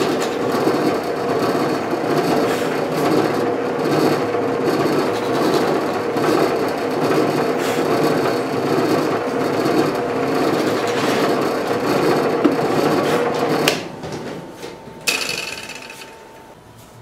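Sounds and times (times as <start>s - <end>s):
drill press cutting plywood: 0.0s - 13.9s, 15.0s - 16.2s.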